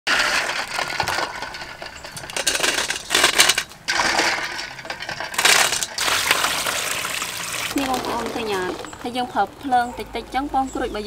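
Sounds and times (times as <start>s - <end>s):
eggs clattering in metal bowl: 0.1s - 9.1s.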